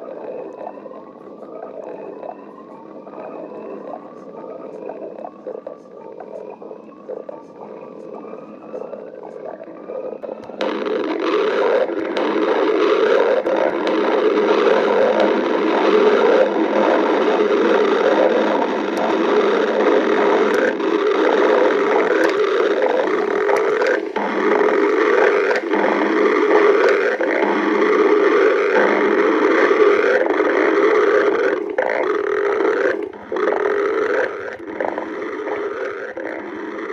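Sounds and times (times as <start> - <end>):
stomach growling: 0.0 - 36.9.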